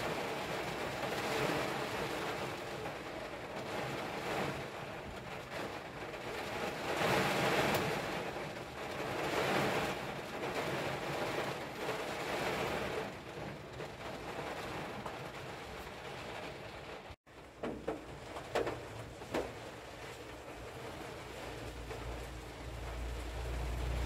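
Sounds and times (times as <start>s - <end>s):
heavy rain on car roof: 0.0s - 24.0s.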